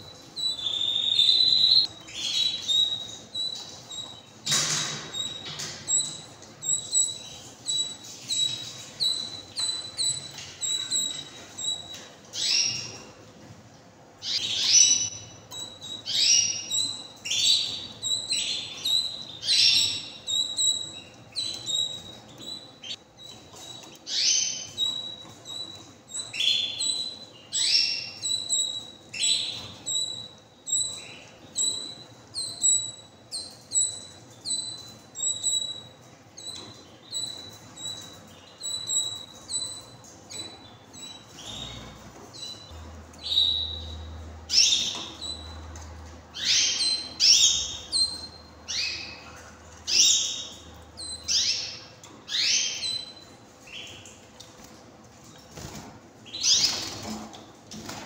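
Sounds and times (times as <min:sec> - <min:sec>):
canaries chirping: 0:00.0 - 0:58.0.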